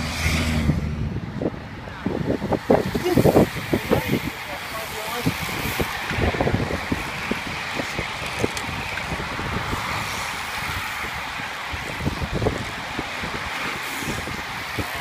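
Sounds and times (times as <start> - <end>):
bicycles whirring past: 0.0 - 15.0
wind buffeting microphone: 0.0 - 15.0.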